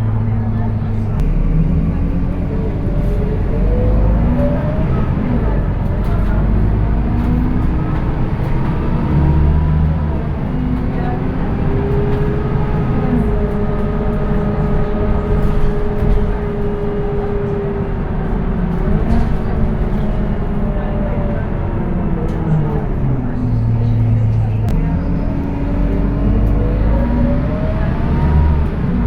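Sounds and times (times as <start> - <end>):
bus diesel engine rumble: 0.0 - 29.0.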